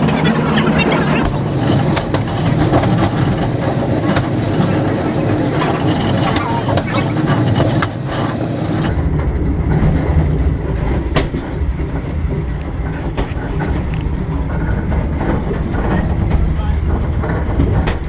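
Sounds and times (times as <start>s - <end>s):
low rumble of train wheels: 0.0s - 18.0s
rail joint clicks: 0.8s - 18.0s.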